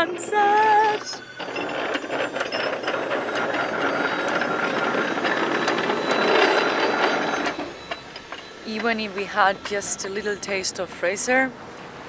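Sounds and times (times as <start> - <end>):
anchor chain rattling: 0.0 - 11.3.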